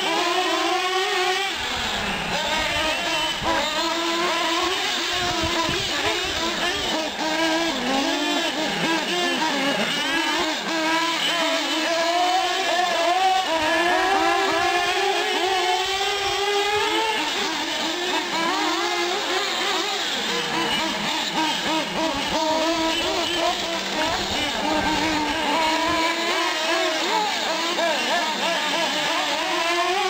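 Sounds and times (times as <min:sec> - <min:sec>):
small car engines revving: 0:00.0 - 0:30.0.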